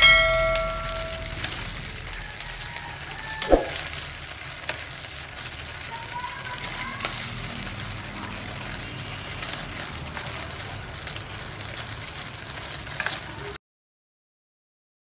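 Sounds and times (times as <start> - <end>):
meat sizzling in frying pan: 0.0 - 13.6.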